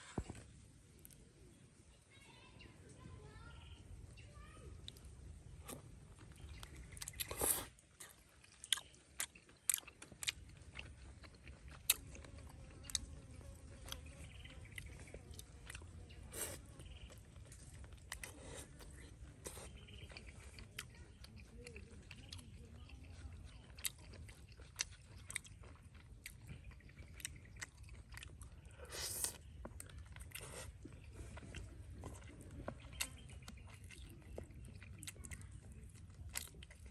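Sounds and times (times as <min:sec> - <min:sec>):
person chewing crunchy food: 0:04.8 - 0:36.9.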